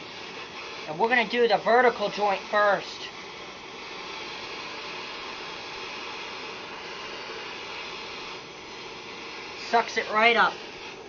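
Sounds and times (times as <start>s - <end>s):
propane torch hissing: 0.0s - 11.0s.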